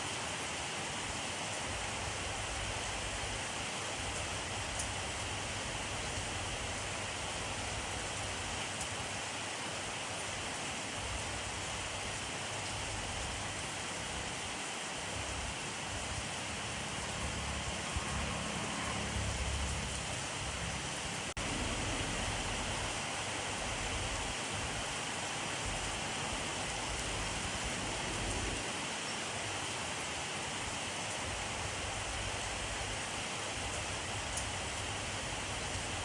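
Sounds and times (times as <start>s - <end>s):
steady rainfall: 0.0s - 36.0s.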